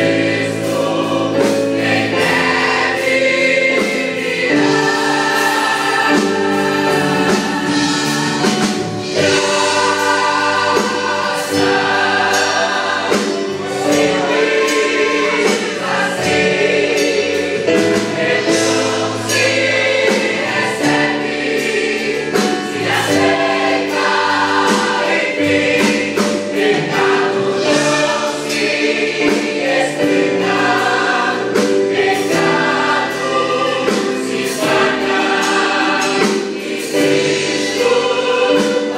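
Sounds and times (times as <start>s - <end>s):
band with drums: 0.0s - 38.9s
choir singing a hymn: 0.0s - 38.9s.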